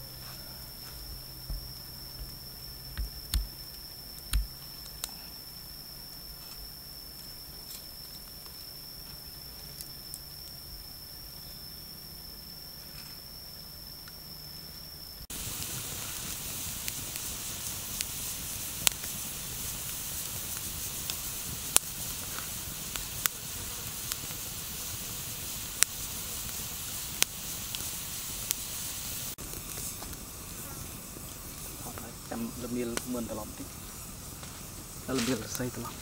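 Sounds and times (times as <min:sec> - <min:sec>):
high insect drone: 0:00.0 - 0:36.0
wood fire crackling and popping: 0:00.7 - 0:05.3, 0:06.2 - 0:10.6, 0:15.2 - 0:36.0.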